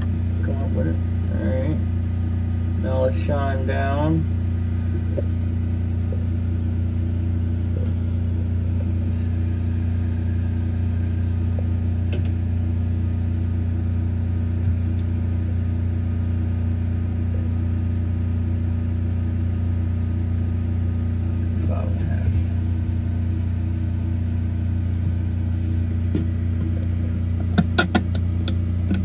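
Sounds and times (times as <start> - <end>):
faint high whine: 0.0 - 27.4
low mechanical hum: 0.0 - 29.0.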